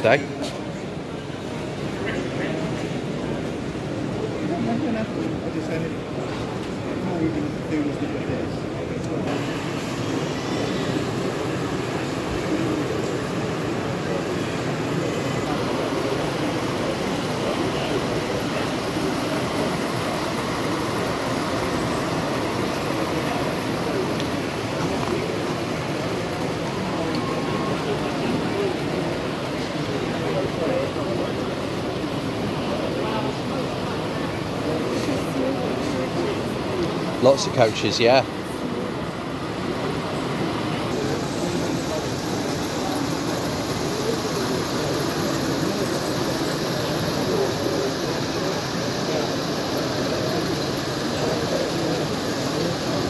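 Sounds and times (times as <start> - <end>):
hubbub of crowd in hall: 0.0 - 53.0
model train rattling on track: 0.0 - 53.0.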